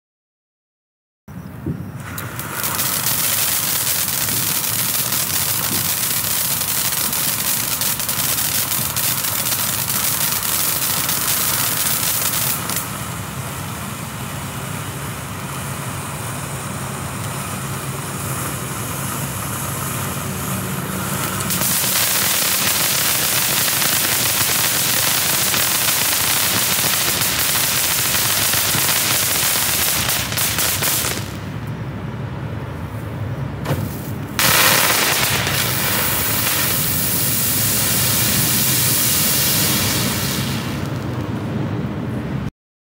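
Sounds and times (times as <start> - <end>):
fountain firework hissing and crackling: 2.0 - 31.7, 34.3 - 41.5.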